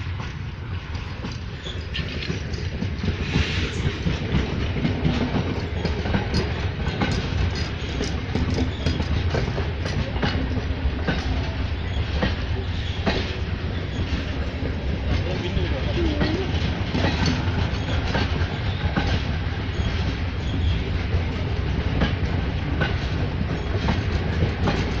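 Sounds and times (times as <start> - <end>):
train wheels rumbling on rail: 0.0 - 25.0
wheels clicking and clanking: 0.2 - 11.4, 12.0 - 20.8.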